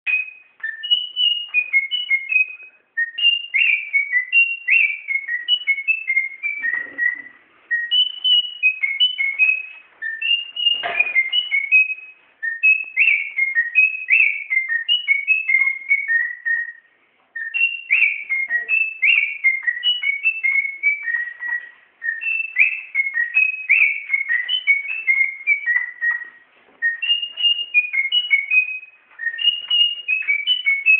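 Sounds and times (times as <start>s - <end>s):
parrot whistling a melody: 0.1s - 30.9s.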